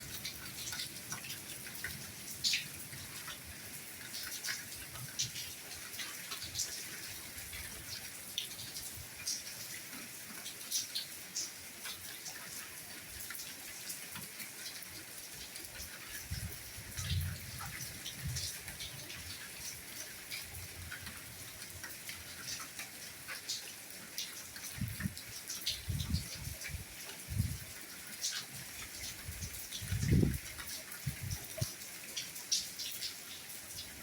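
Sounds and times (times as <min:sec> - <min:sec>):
soft rain hissing: 0:00.0 - 0:34.0.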